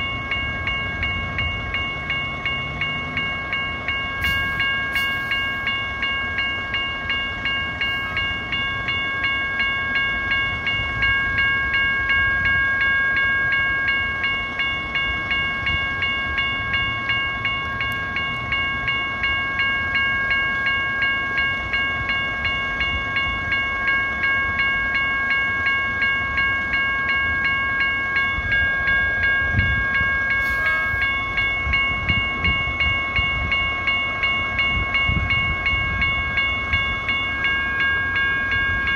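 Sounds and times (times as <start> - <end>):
railroad bell ringing: 0.0 - 38.9.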